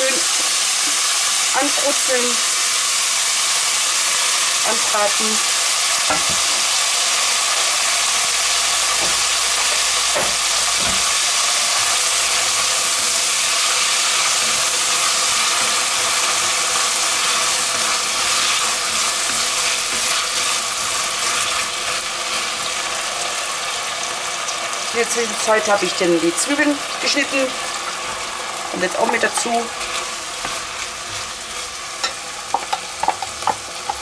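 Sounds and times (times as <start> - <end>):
vegetables sizzling in butter: 0.0 - 34.0.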